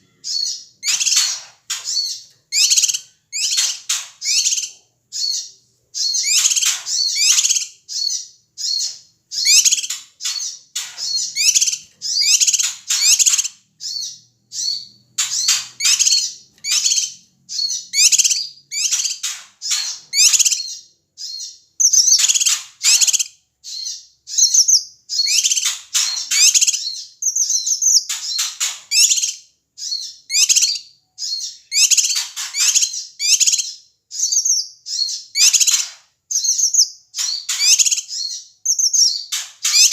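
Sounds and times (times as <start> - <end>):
bulbul singing chattering song: 0.0 - 39.9.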